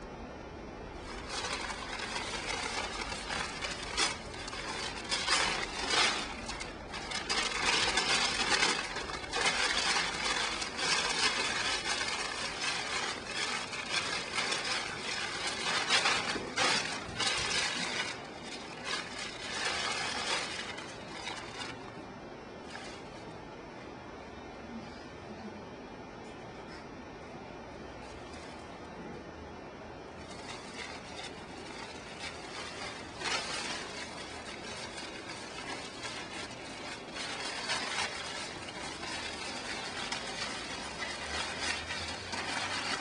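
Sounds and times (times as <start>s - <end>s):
paper rustling and crumpling: 0.9s - 22.0s, 22.6s - 23.2s, 30.2s - 43.0s.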